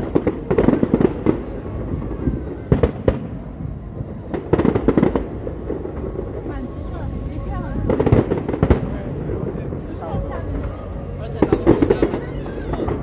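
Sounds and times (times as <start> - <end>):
distant fireworks bangs and pops: 0.0 - 10.6, 11.4 - 13.0.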